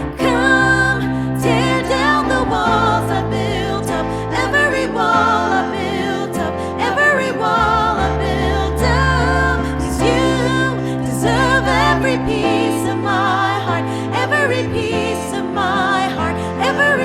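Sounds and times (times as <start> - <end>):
voices singing wordless melody: 0.0 - 17.0
worship band playing: 0.0 - 17.0.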